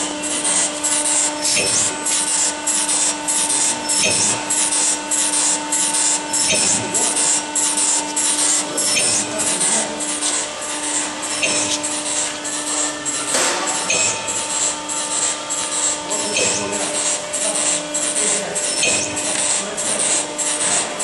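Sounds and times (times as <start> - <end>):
mechanical hum: 0.0 - 21.0
sharp machine click: 0.3 - 21.0.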